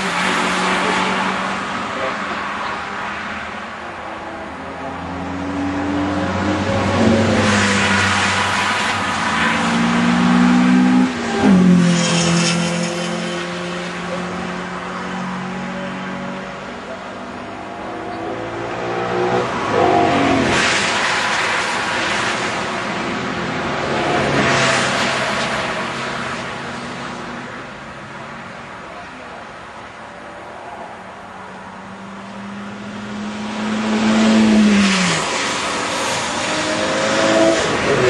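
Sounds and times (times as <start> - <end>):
race cars passing at speed: 0.0 - 38.0.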